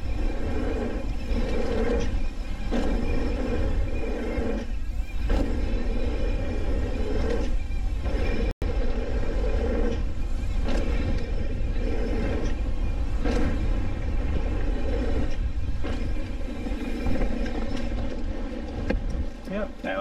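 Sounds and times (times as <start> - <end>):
bike tyres rolling over dirt: 0.0 - 20.0
wind on microphone: 0.0 - 20.0.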